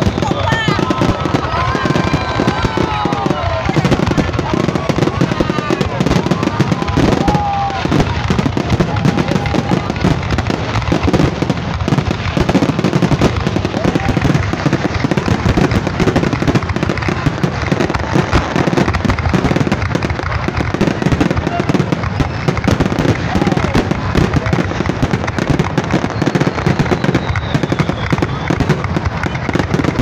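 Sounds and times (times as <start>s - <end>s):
fireworks bursts and crackling: 0.0s - 30.0s
whistling fireworks: 0.0s - 30.0s.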